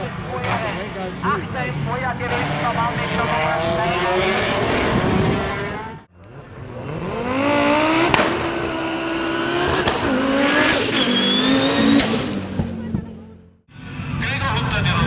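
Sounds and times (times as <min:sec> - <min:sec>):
race car accelerating: 0:00.0 - 0:13.6
race car engine at high revs: 0:00.0 - 0:13.6.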